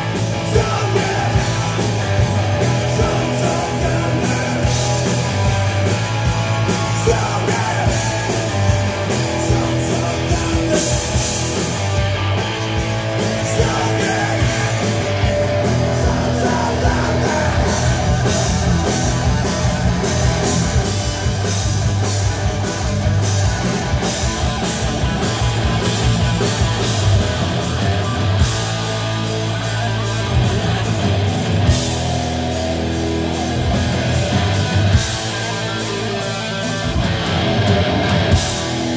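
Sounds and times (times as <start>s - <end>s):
live hard rock band: 0.0s - 38.9s.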